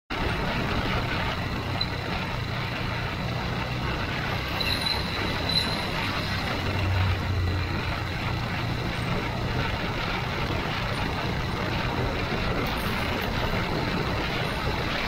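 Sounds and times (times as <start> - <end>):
motorcycle engine running: 0.1 - 15.0
road noise: 0.1 - 15.0.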